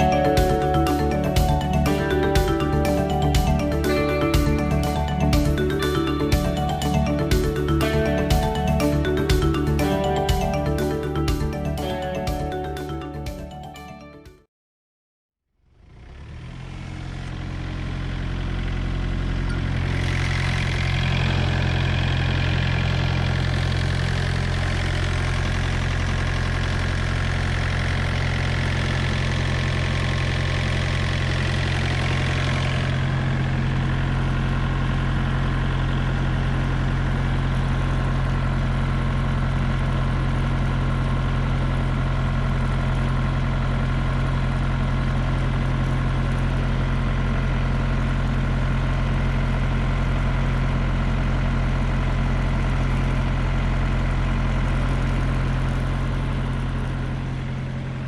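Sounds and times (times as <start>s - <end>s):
diesel engine idling: 0.0s - 13.2s, 15.8s - 58.0s.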